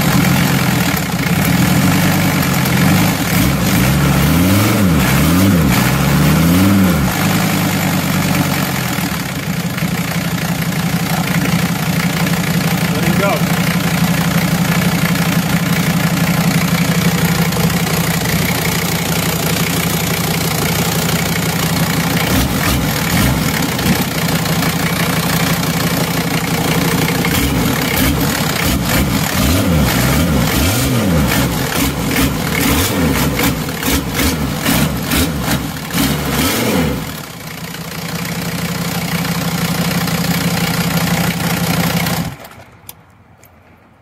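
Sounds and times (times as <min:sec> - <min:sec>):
diesel engine idling and revving: 0:00.0 - 0:42.9.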